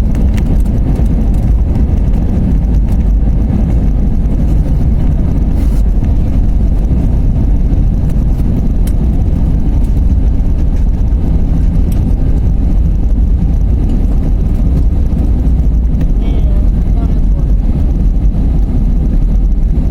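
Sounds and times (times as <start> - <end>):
airliner cabin rumble: 0.0 - 19.9.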